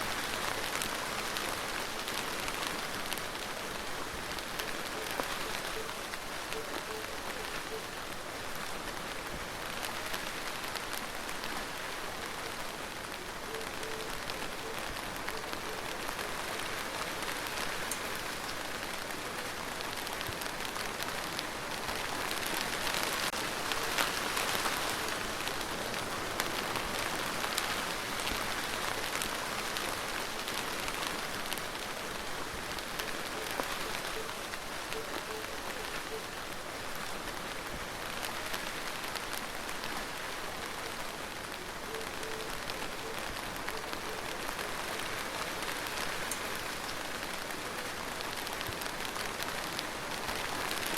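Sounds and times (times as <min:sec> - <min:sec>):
rain falling steadily: 0:00.0 - 0:50.9.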